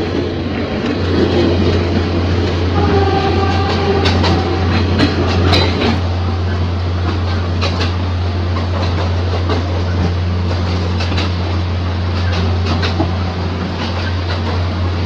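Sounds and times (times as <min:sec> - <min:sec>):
electric train rumbling: 0:00.0 - 0:15.0
wheels clacking on rails: 0:00.0 - 0:15.0.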